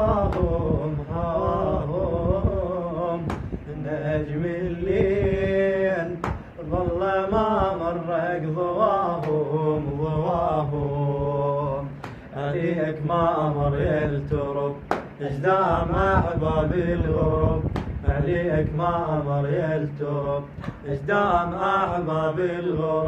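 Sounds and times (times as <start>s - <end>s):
man chanting unaccompanied: 0.0s - 23.0s.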